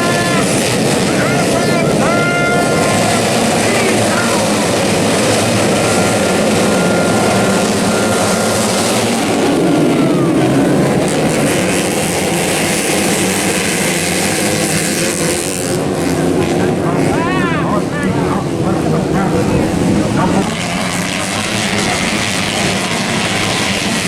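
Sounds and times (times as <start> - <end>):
dirt bike engines racing: 0.0 - 24.0.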